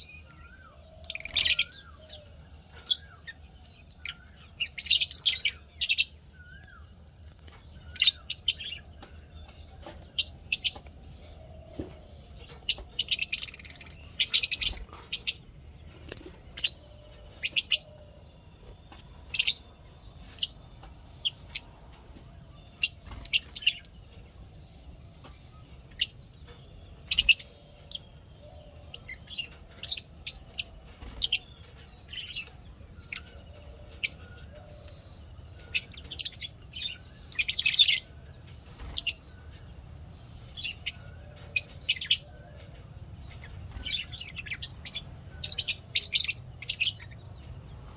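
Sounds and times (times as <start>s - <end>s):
lovebirds chirping: 0.0s - 47.9s.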